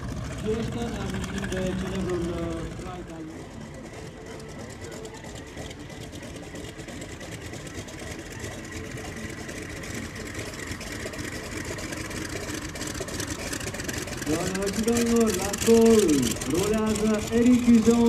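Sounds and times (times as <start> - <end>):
aircraft engine rumbling: 0.0 - 18.0.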